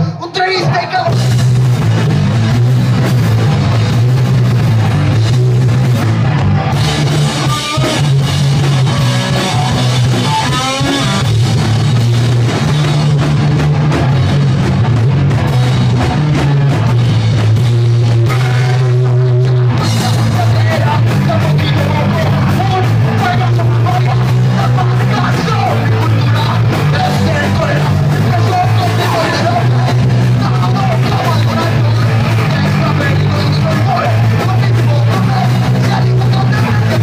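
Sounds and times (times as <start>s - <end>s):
drum kit: 0.0s - 37.0s
electric guitars: 0.0s - 37.0s.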